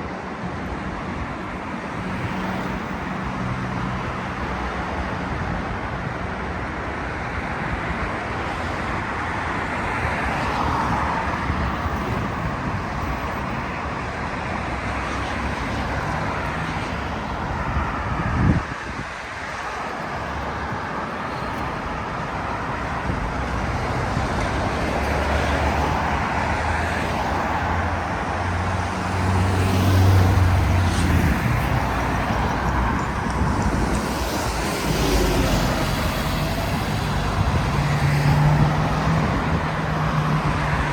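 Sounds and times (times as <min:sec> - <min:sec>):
road traffic going by: 0:00.0 - 0:40.9.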